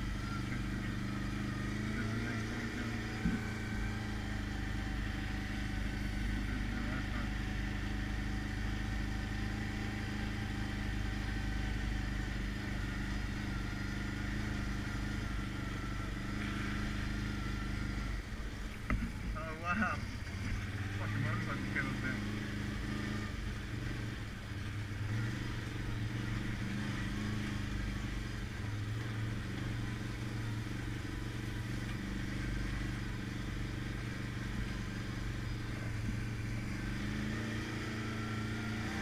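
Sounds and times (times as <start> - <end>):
quad bike engine running: 0.0 - 39.0
tyres on rocky dirt trail: 0.0 - 39.0.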